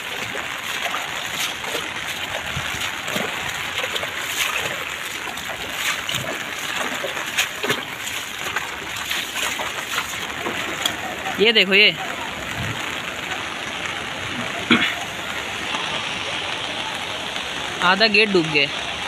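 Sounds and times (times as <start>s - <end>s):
floodwater rushing and splashing: 0.0s - 19.0s.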